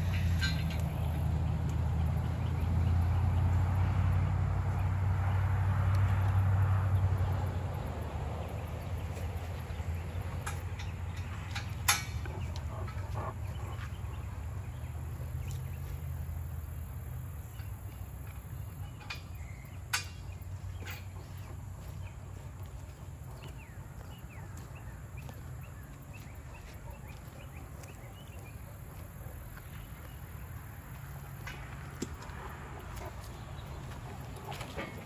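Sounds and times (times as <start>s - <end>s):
steady low hum: 6.8s - 35.0s.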